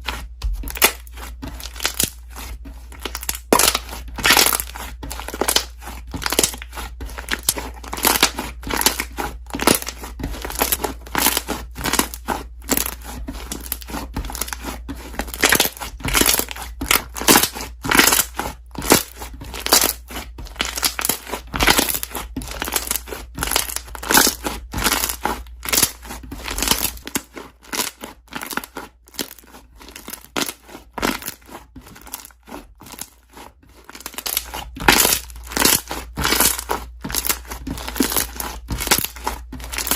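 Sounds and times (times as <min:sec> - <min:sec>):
slime squishing by hand: 0:00.0 - 0:39.9.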